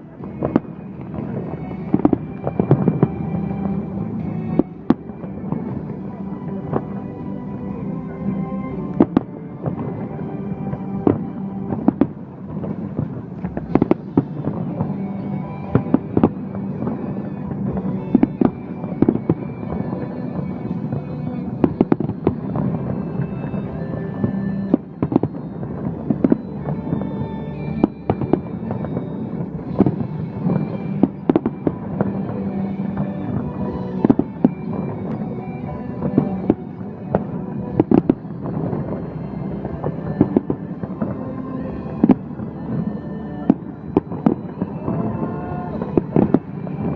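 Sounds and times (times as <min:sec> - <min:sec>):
background music: 0:00.0 - 0:46.9
fireworks bangs and crackling: 0:00.0 - 0:46.9.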